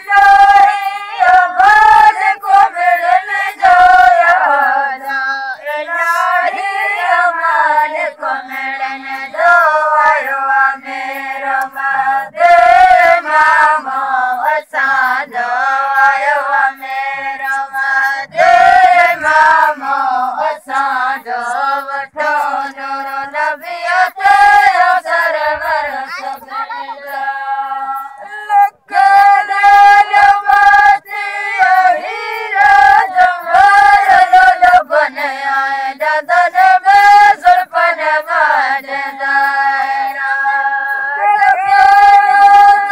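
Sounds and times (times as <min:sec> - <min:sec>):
voices singing in chorus: 0:00.0 - 0:42.9.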